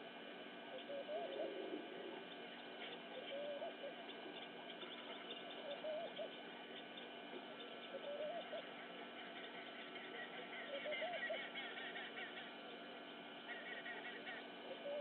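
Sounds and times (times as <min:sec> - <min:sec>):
bird cooing call: 0:00.7 - 0:15.0
faint high bird chirps: 0:02.2 - 0:15.0.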